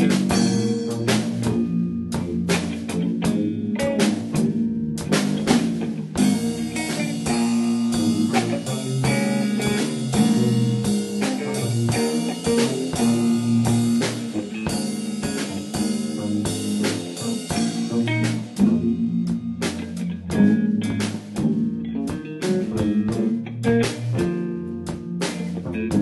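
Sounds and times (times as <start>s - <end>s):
drum kit beat: 0.0s - 26.0s
guitar: 0.0s - 26.0s
low bass line: 0.0s - 26.0s.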